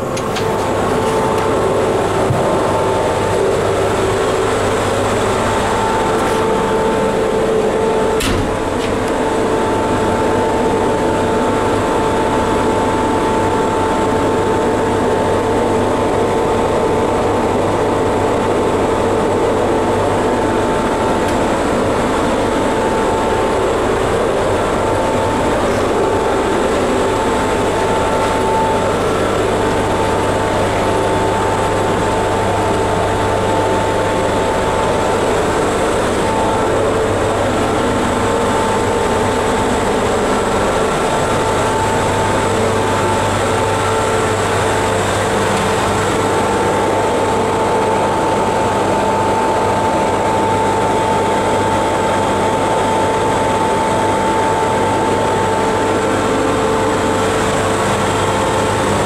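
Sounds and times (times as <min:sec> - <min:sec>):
locomotive machinery drone: 0:00.0 - 0:59.0
steady whining tones: 0:00.0 - 0:59.0.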